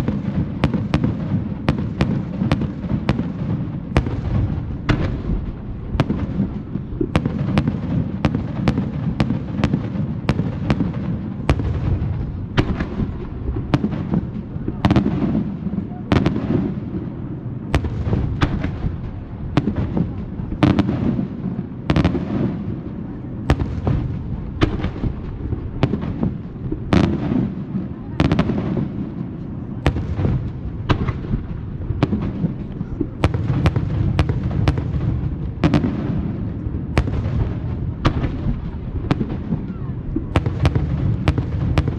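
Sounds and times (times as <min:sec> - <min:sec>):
fireworks bangs and cracks: 0:00.0 - 0:41.9
low rumble of explosions: 0:00.0 - 0:41.9.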